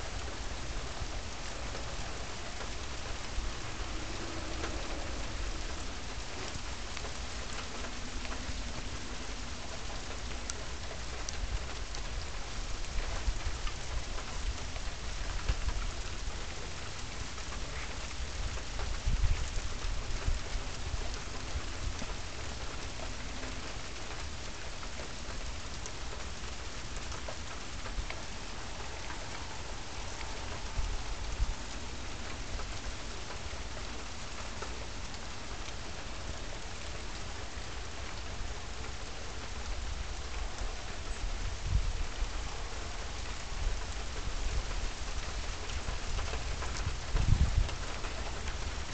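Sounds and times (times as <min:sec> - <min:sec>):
thunder rumble: 0:00.0 - 0:24.5, 0:25.1 - 0:48.9
steady rain: 0:00.0 - 0:48.9.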